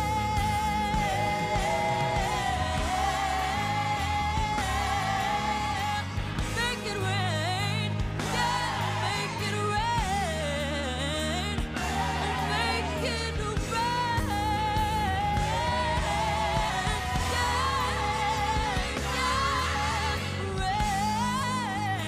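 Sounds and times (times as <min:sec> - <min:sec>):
low bass: 0:00.0 - 0:22.0.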